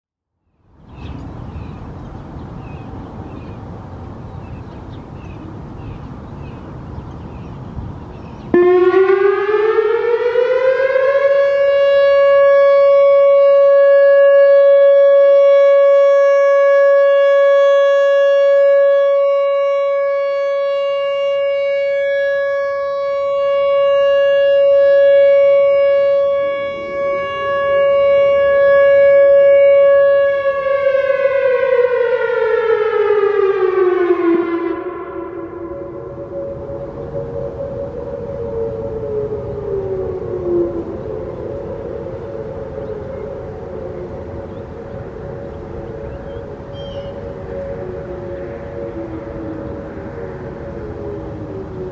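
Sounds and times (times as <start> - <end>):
electronic siren wailing: 8.5 - 51.9.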